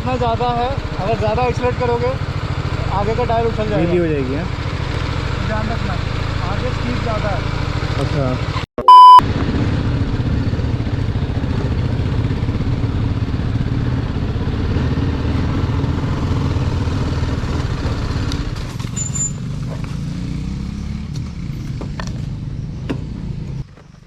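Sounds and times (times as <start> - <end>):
motorcycle engine under load: 0.0 - 24.0.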